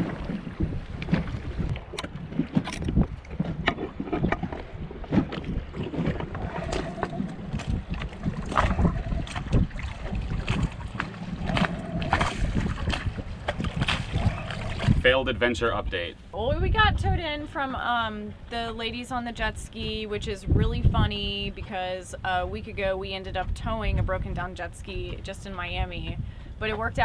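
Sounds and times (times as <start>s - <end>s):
wind on microphone: 0.0s - 27.0s.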